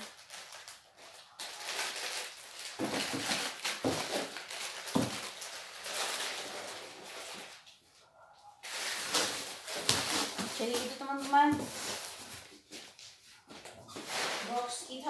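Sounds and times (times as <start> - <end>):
packaging rustling and crinkling: 0.0 - 7.8, 8.6 - 15.0.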